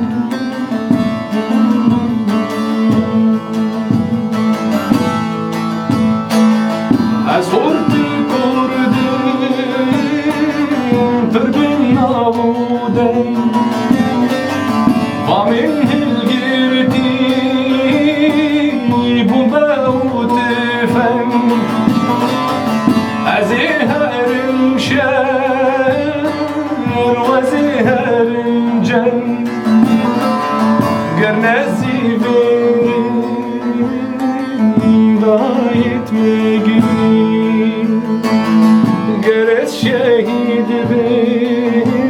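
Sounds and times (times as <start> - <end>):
plucked string instruments: 0.0 - 42.0.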